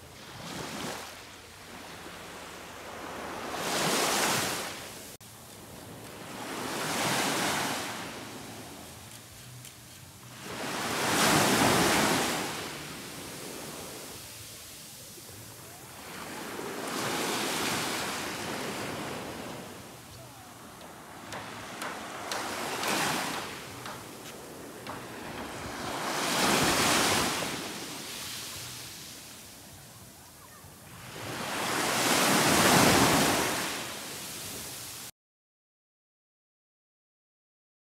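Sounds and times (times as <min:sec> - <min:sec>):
small waves washing up sand: 0:00.0 - 0:30.2, 0:30.8 - 0:35.1.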